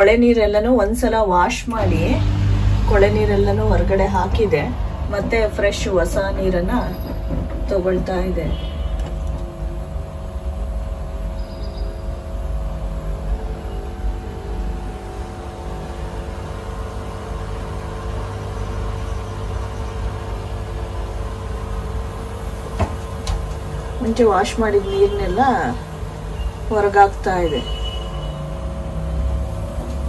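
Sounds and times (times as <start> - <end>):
drain pump humming: 0.0 - 30.0
washing machine rumbling: 0.0 - 30.0.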